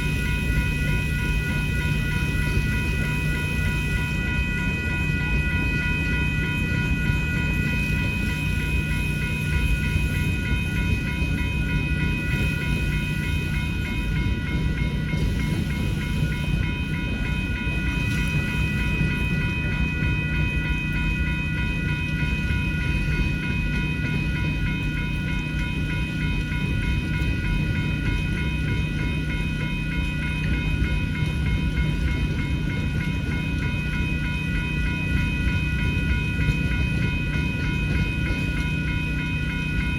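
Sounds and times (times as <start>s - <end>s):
crossing signal bells ringing: 0.0s - 39.9s
freight train rumble and wheel clatter: 0.0s - 39.9s.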